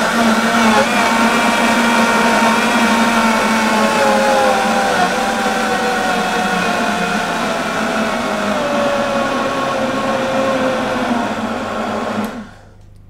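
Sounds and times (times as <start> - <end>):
blender motor whine: 0.0 - 13.0.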